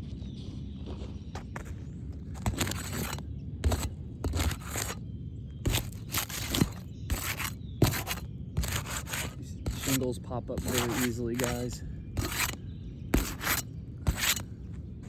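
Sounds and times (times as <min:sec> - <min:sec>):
shingles scraping and tearing: 0:01.6 - 0:05.0, 0:05.6 - 0:14.6.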